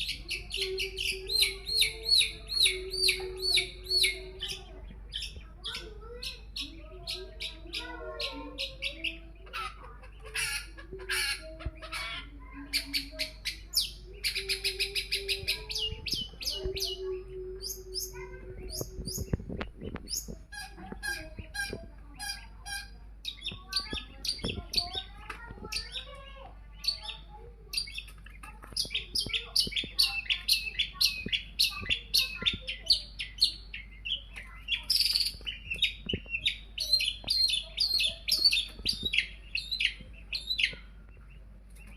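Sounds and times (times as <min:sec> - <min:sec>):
bird singing harsh chirps and trills: 0:00.0 - 0:41.9.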